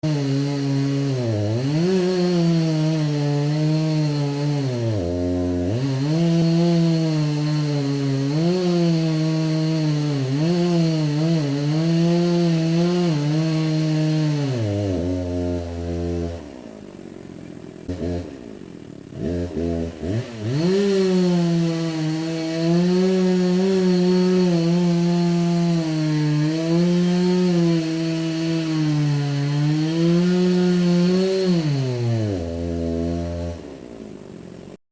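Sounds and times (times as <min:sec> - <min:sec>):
chainsaw engine revving: 0:00.0 - 0:34.8.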